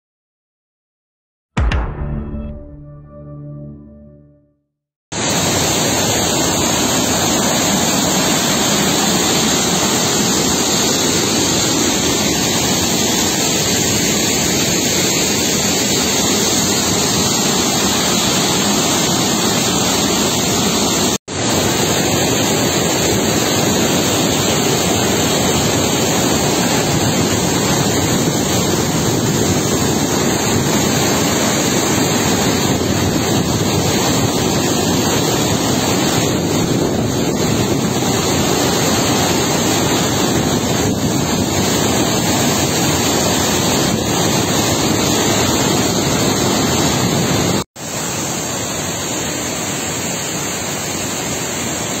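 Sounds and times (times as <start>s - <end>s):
waterfall and stream rushing: 5.2s - 52.0s.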